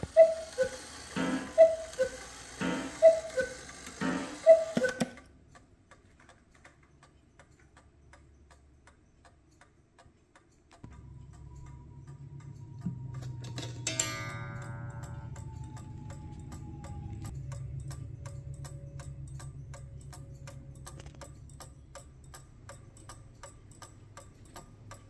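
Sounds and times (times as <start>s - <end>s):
clock ticking: 0.0s - 25.0s.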